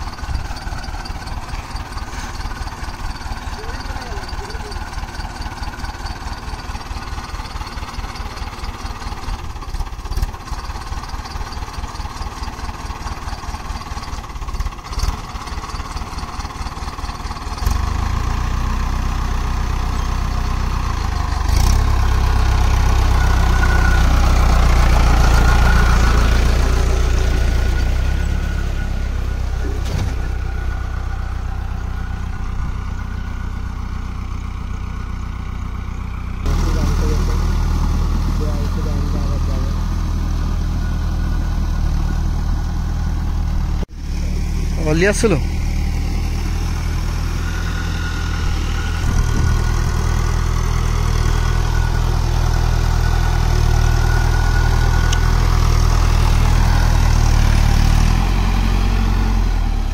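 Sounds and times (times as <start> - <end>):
tractor diesel engine chugging: 0.0 - 59.9.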